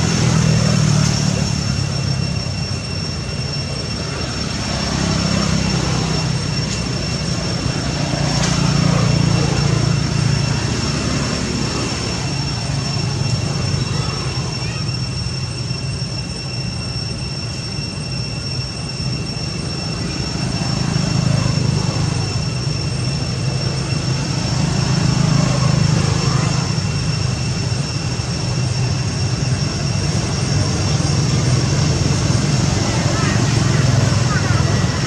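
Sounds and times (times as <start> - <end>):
low engine drone: 0.0 - 35.0
thin high whine: 0.0 - 35.0.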